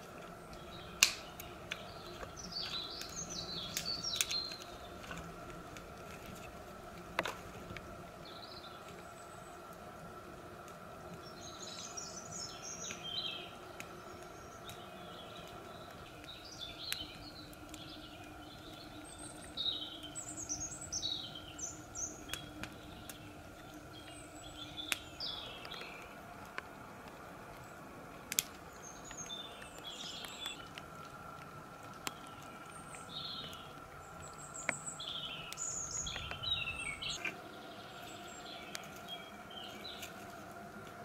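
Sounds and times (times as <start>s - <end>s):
campfire crackling pops: 0.0s - 41.0s
small birds chirping: 0.0s - 41.0s.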